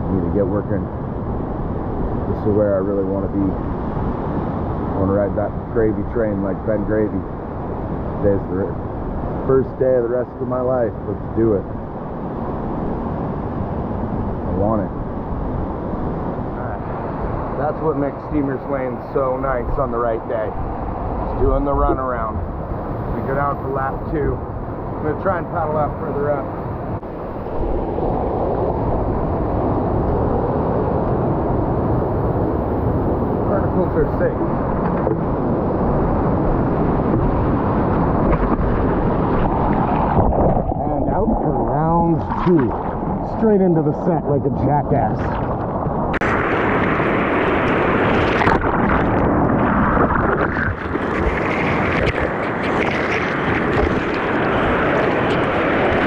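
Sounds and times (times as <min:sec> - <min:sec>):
ocean surf rushing: 0:00.0 - 0:56.0.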